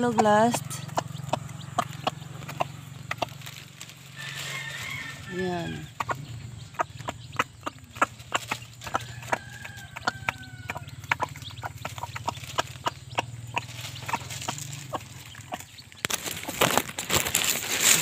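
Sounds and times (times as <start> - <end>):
beak tapping on feed trough: 0.0 - 3.5, 5.6 - 16.6
chick peeps: 0.0 - 17.7.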